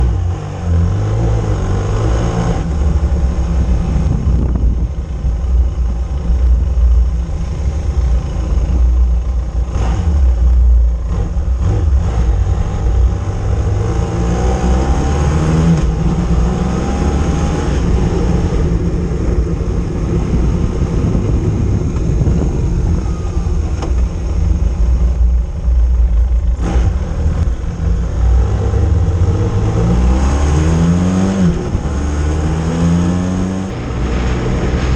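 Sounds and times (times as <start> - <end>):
heavy low rumble: 0.0 - 34.9
motorcycle engine running: 0.0 - 34.9.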